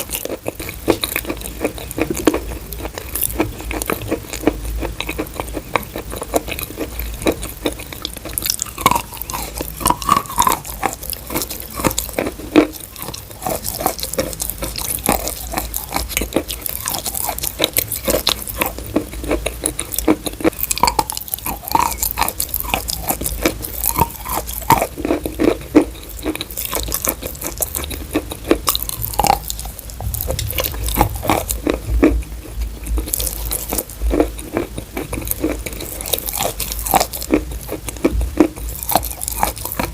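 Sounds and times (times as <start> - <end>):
chalk crunching when chewed: 0.0 - 39.9.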